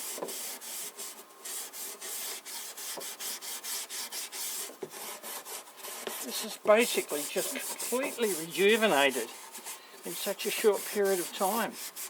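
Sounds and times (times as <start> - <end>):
steel wool scrubbing wood: 0.0 - 12.0.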